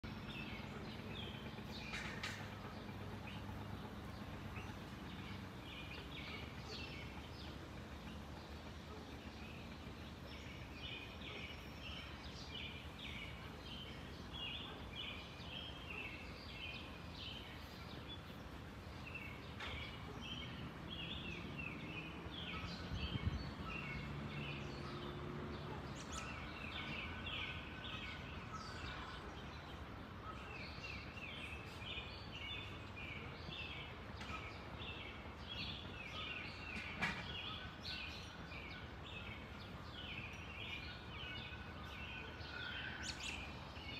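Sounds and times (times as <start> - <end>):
low steady rumble: 0.0 - 36.6
small birds chirping: 0.0 - 43.9.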